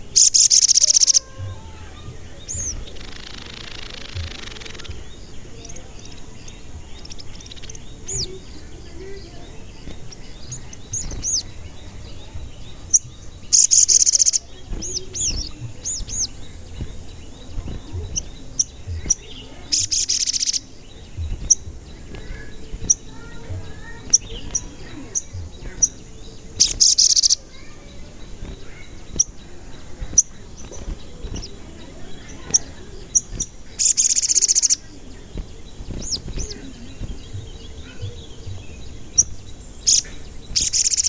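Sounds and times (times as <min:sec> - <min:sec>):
harsh buzzing bird calls: 0:00.0 - 0:41.0
songbird chirping: 0:00.0 - 0:41.0.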